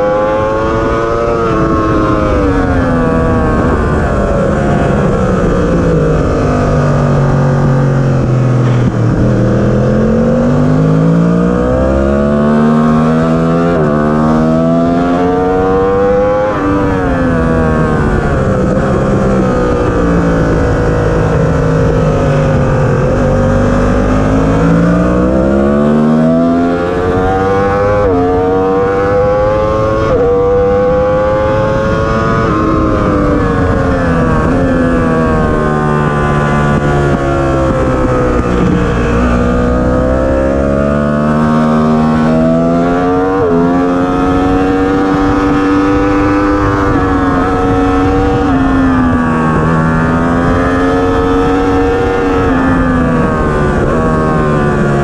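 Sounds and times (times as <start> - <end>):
sportbike engine at full throttle: 0.0 - 55.0
wind rush over microphone: 0.0 - 55.0.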